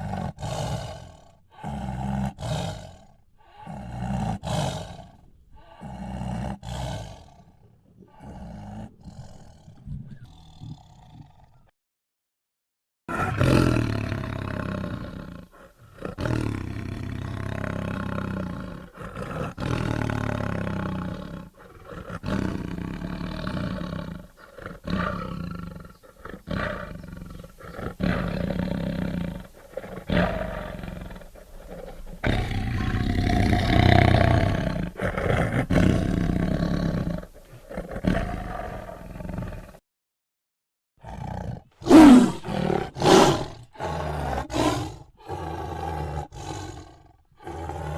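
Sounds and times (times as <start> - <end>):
tiger roaring: 0.0 - 11.7, 13.1 - 39.8, 41.0 - 47.9.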